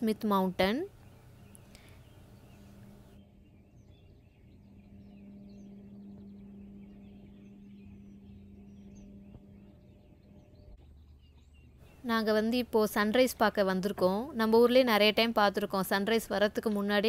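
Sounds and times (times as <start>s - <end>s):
steady low hum: 0.0s - 17.0s
bird chirps: 0.9s - 14.8s.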